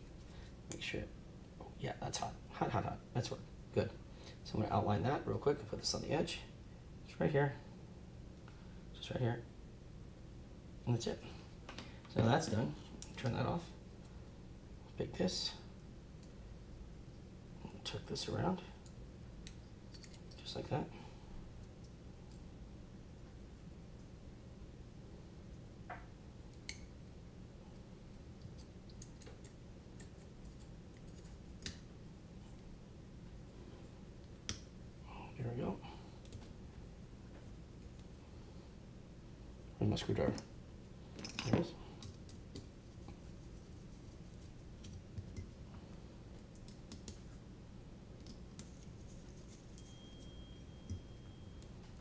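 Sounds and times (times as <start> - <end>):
low room hum: 0.0 - 52.0.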